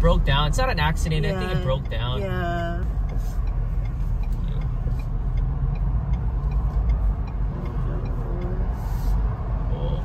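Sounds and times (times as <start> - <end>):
road and traffic noise: 0.0 - 10.0.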